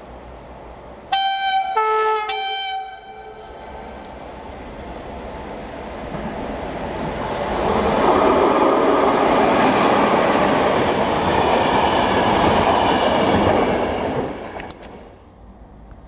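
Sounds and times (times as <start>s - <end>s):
train wheels on rails passing: 0.0s - 16.0s.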